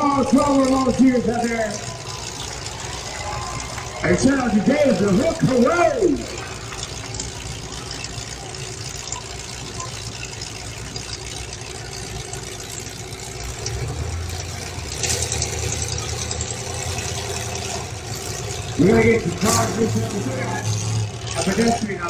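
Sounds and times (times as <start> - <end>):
deeper engine note: 0.0 - 22.0
vehicle engines idling: 0.0 - 22.0.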